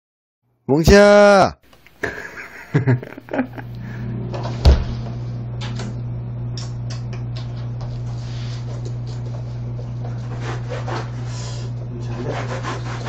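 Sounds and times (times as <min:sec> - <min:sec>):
steady low hum: 0:00.9 - 0:13.0.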